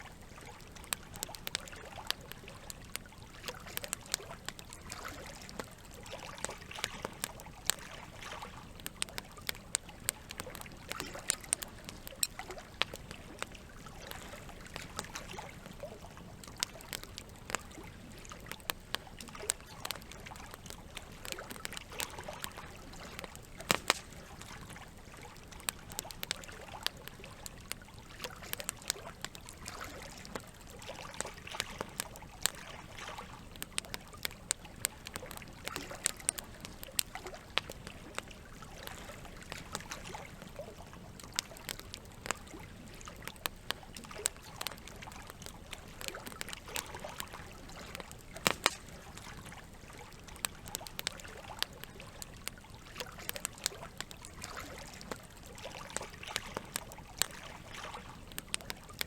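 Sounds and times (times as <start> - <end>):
campfire crackling and popping: 0.0 - 59.0
trickle of running water: 0.0 - 59.0.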